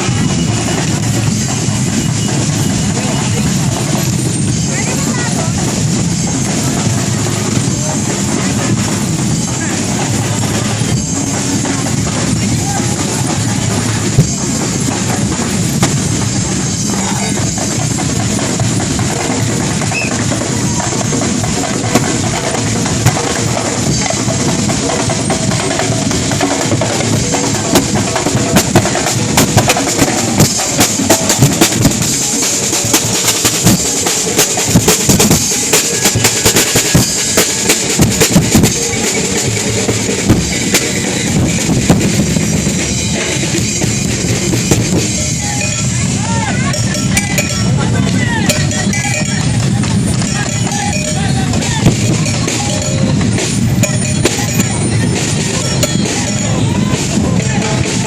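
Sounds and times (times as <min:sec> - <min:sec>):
percussion band drumming: 0:00.0 - 0:58.0.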